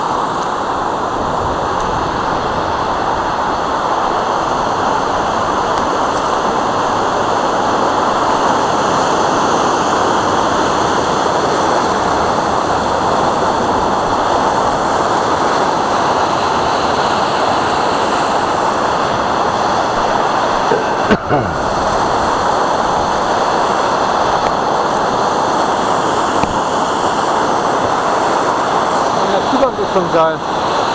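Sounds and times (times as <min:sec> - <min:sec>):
waterfall roaring: 0:00.0 - 0:30.9.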